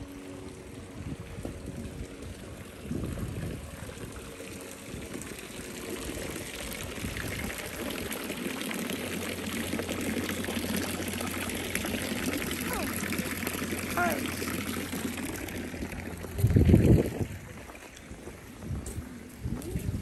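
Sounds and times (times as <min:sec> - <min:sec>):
fountain water splashing into basin: 0:00.0 - 0:20.0.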